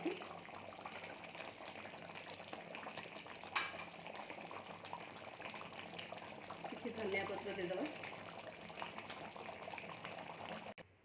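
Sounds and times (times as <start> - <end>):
curry simmering in a pan: 0.0 - 10.8.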